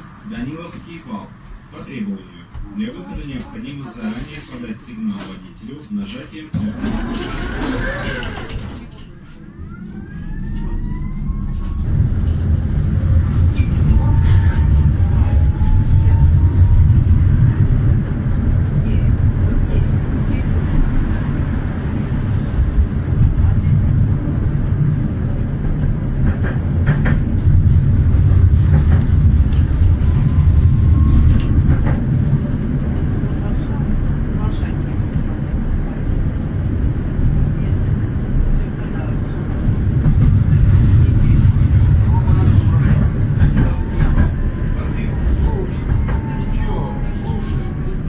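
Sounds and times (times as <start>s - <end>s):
wheels rumbling on rails: 0.0s - 48.0s
tram motor whine: 6.6s - 48.0s.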